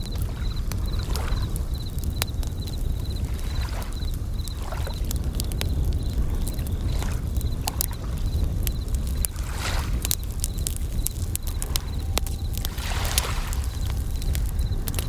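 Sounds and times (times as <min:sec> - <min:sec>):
crickets chirping in ringing trills: 0:00.0 - 0:15.0
wood fire crackling and popping: 0:00.0 - 0:15.0
waves washing in and out: 0:00.1 - 0:15.0.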